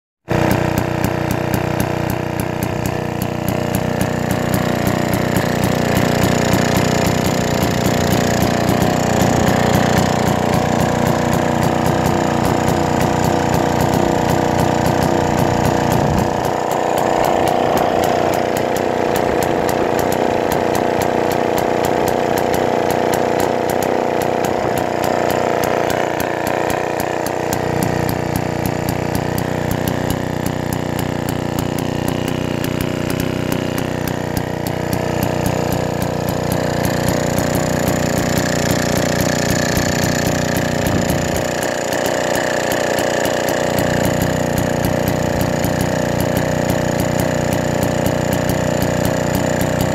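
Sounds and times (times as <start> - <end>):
two-stroke engine running: 0.2 - 49.9.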